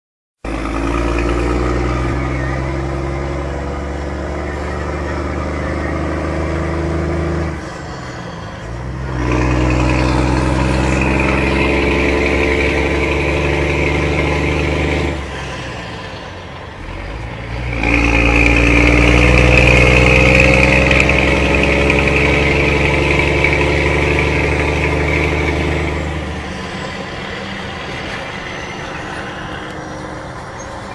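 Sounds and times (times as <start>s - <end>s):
truck diesel engine rumbling: 0.4s - 30.9s.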